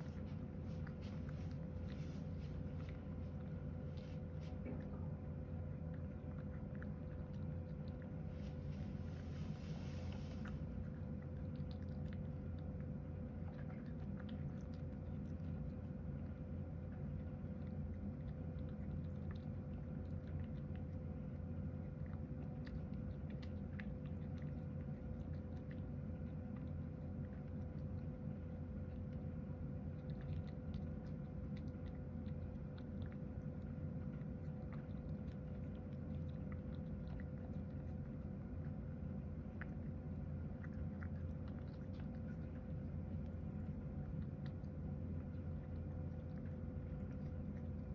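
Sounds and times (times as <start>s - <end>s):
cat chewing food: 0.0s - 47.9s
steady low hum: 0.0s - 47.9s.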